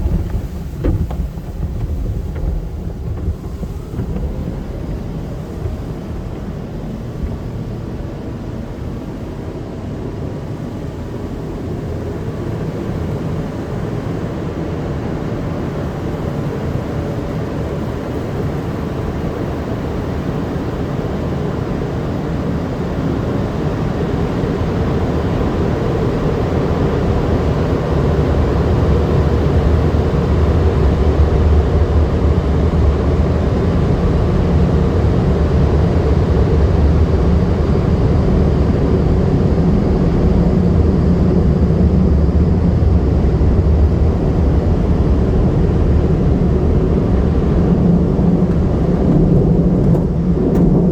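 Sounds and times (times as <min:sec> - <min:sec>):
car wash machinery running: 0:00.0 - 0:50.9.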